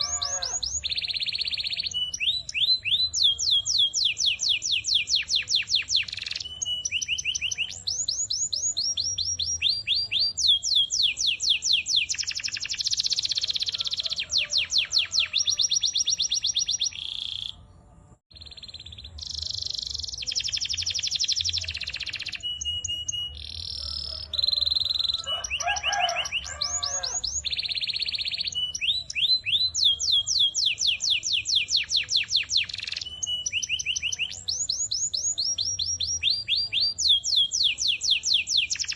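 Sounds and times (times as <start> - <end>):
canary singing in trills: 0.0 - 38.9.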